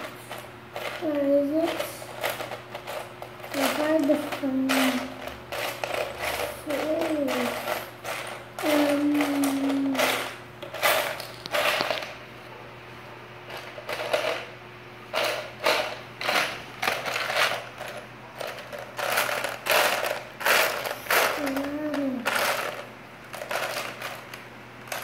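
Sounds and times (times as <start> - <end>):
plastic bricks clattering: 0.0 - 12.2, 13.5 - 14.5, 15.1 - 25.0.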